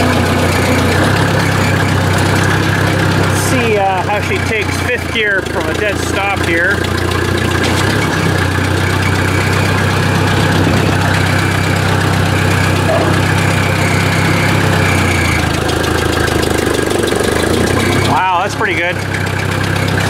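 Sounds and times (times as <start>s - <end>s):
tractor engine pulling under load: 0.0s - 20.0s.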